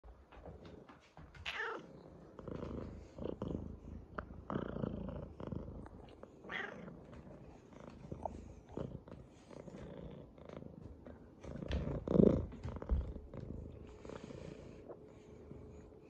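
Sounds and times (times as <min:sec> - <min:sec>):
cat purring: 0:00.1 - 0:16.0.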